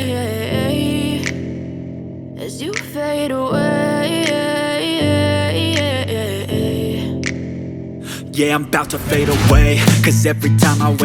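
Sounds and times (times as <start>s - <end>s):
slow sad pop song: 0.0s - 11.0s.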